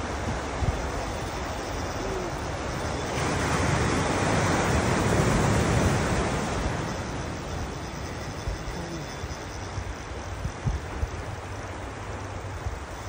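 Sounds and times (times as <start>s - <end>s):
ocean surf on rocky shore: 0.0s - 13.0s.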